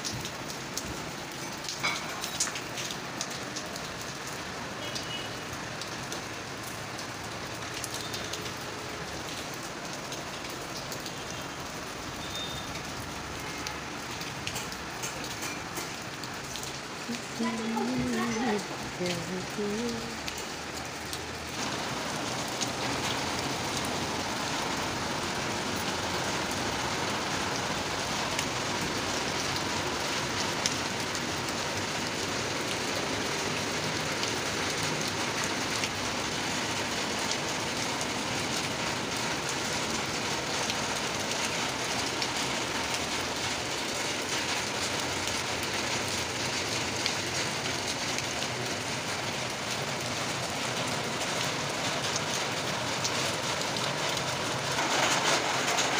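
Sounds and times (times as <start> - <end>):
rain hissing: 0.0 - 55.9
raindrop ticks: 0.0 - 55.9.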